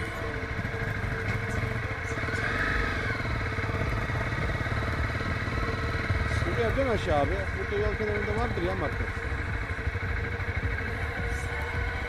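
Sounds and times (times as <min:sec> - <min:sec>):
road noise: 0:00.0 - 0:12.0
vehicle engine: 0:00.0 - 0:12.0.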